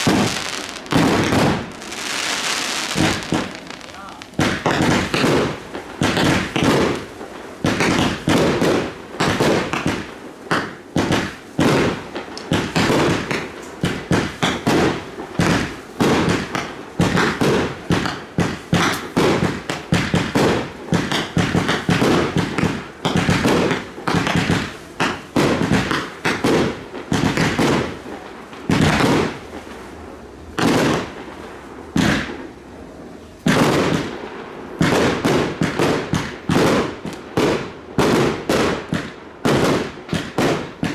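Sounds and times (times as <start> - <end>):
fireworks banging: 0.0 - 40.9.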